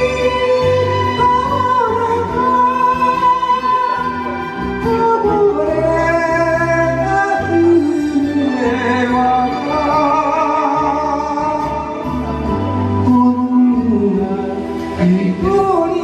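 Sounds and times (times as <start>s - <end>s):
instrumental backing track: 0.0s - 16.0s
person singing into microphone: 0.0s - 16.0s.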